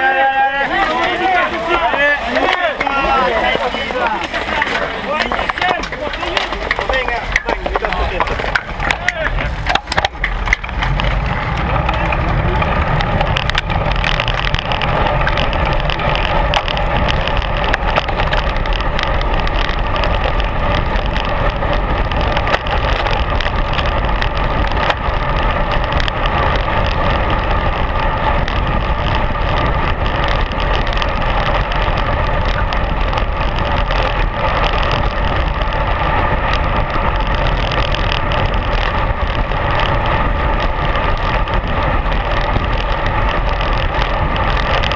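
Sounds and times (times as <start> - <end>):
road noise: 0.0 - 44.9
wind rush: 0.0 - 44.9.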